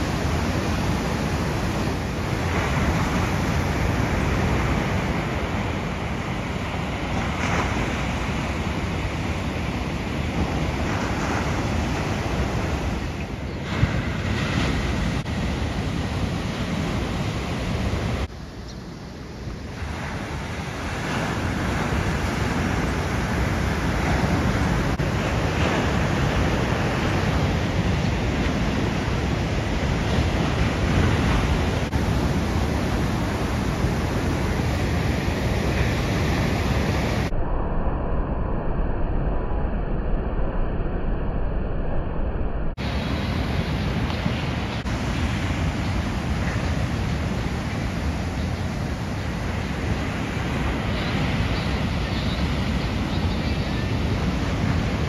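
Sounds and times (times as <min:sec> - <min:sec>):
ocean surf breaking: 0:00.0 - 0:37.3, 0:42.8 - 0:55.0
wind buffeting microphone: 0:00.0 - 0:37.3, 0:42.8 - 0:55.0.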